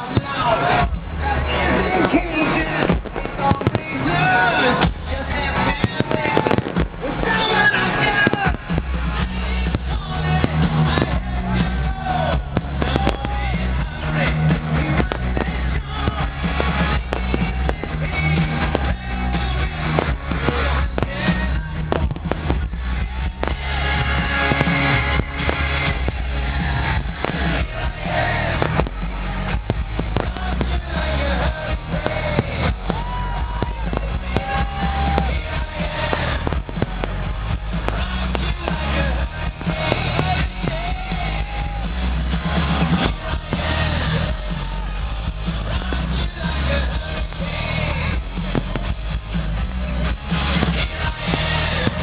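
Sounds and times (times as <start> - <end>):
firework bangs: 0.0 - 52.0
loud music with heavy bass: 0.0 - 52.0.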